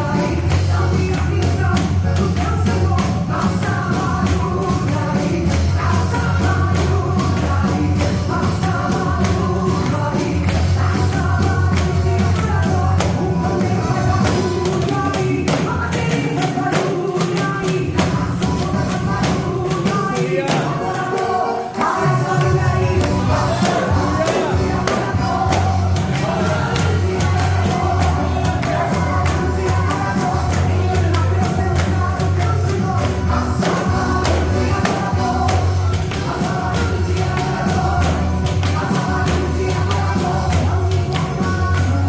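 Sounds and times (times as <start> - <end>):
band playing worship song: 0.0 - 42.0
people singing: 0.0 - 42.0
tambourine shaken and struck: 0.0 - 42.0.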